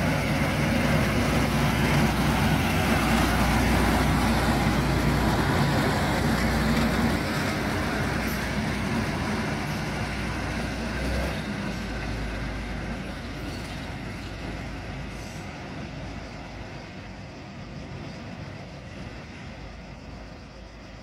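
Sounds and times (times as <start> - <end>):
diesel railcar pulling away: 0.0 - 21.0.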